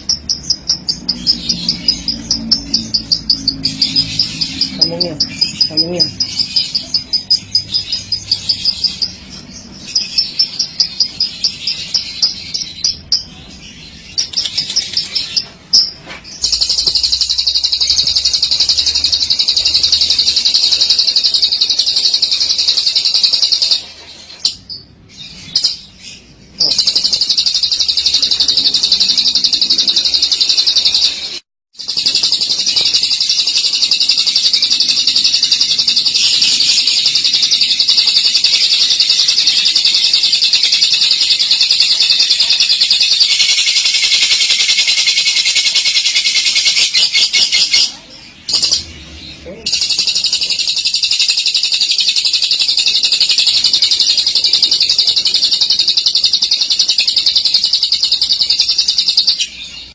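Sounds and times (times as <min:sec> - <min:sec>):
lovebird chirping and trilling: 0:00.0 - 0:59.9.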